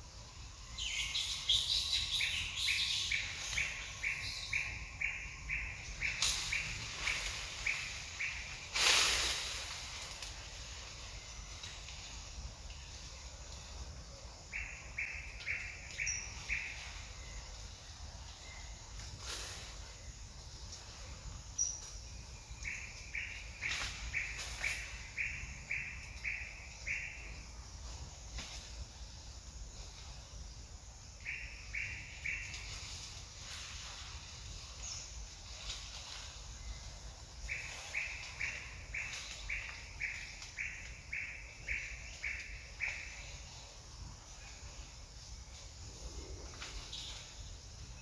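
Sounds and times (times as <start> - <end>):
low background noise: 0.0 - 48.0.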